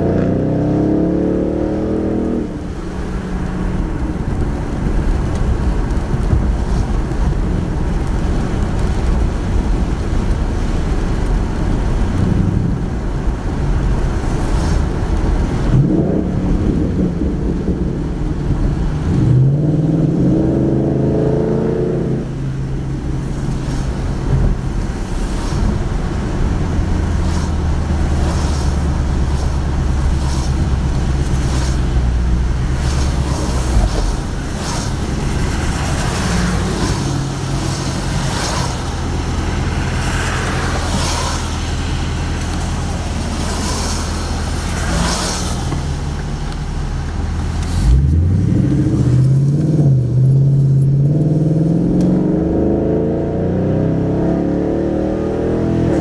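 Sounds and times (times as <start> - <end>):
car engine while driving: 0.0 - 56.0
tyres hissing on wet road: 1.1 - 50.0.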